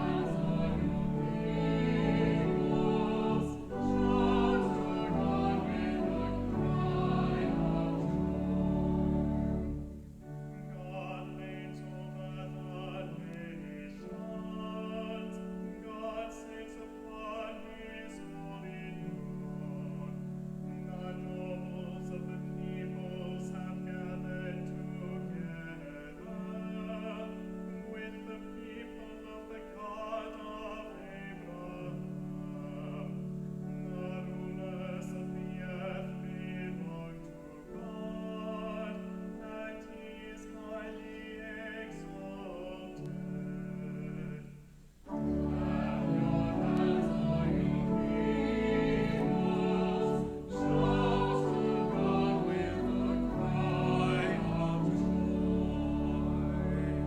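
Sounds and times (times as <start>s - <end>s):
people singing: 0.0s - 9.9s, 20.9s - 57.0s
sustained organ chords: 0.0s - 57.0s.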